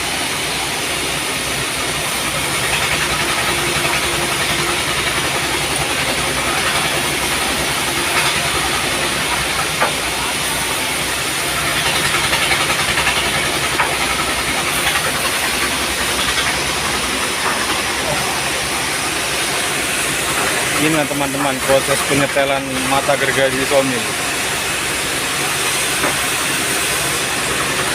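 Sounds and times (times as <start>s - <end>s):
sawmill machinery hiss: 0.0s - 27.9s.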